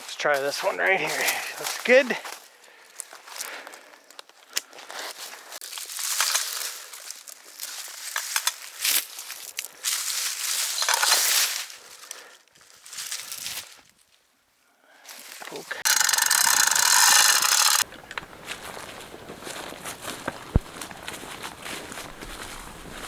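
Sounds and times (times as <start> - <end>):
dry brush rustling and crunching: 0.0 - 13.1, 15.1 - 23.0.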